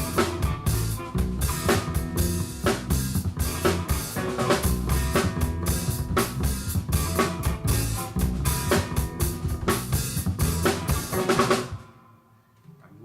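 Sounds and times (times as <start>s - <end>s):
low bass notes: 0.0s - 11.8s
band playing live: 0.0s - 11.9s
drum kit beat: 0.0s - 11.9s.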